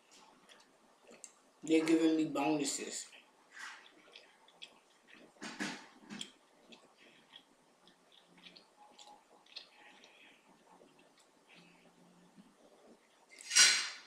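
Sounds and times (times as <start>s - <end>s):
soft wet chewing clicks: 0.0s - 1.5s, 3.0s - 13.4s.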